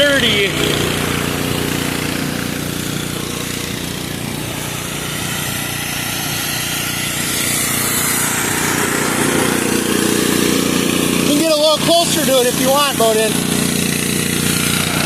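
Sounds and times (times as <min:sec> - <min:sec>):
pressure washer engine droning: 0:00.0 - 0:15.0
water spray hissing: 0:00.2 - 0:15.0.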